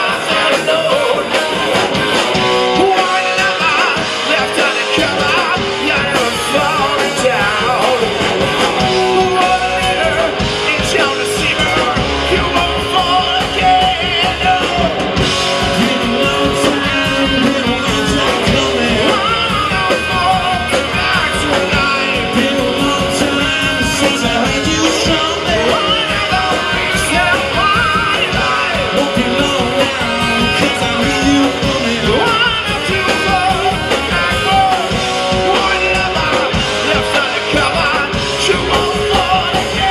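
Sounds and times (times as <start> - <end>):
person singing: 0.0 - 1.8, 2.4 - 39.9
electric guitars: 0.0 - 39.9
live rock band playing: 0.0 - 39.9.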